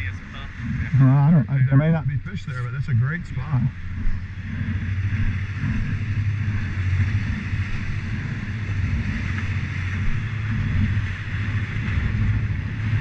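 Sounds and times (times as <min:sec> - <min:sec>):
outboard motors running: 0:00.0 - 0:13.0
water rushing past hull: 0:00.0 - 0:13.0.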